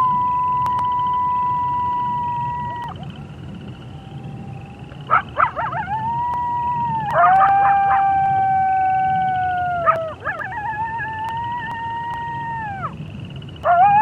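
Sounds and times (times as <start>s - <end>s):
coyotes howling: 0.0s - 14.0s
crickets chirring: 0.0s - 14.0s.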